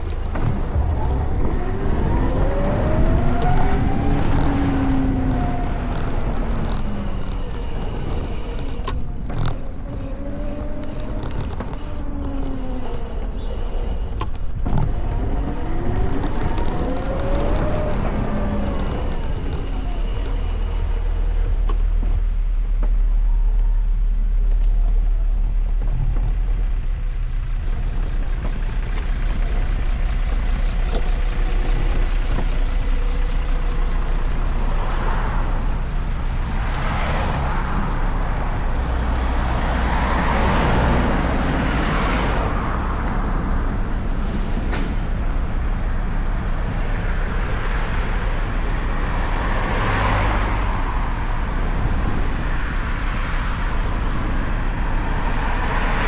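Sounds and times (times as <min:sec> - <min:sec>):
road traffic rumble: 0:00.0 - 0:56.0
vehicles passing: 0:00.0 - 0:56.0.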